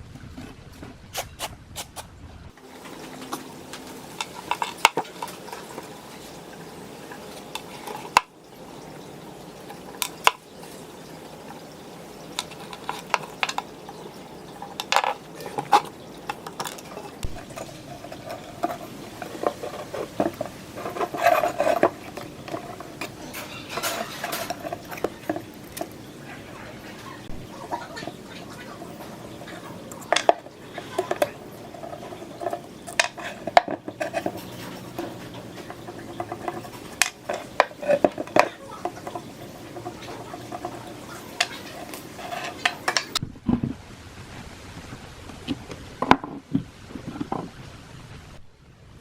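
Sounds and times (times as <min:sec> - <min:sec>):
metal tools clinking and scraping: 0:02.8 - 0:43.2.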